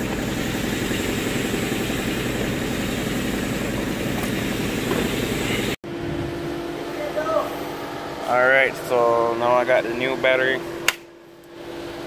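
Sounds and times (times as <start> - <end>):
engine-like drone: 0.0 - 12.0.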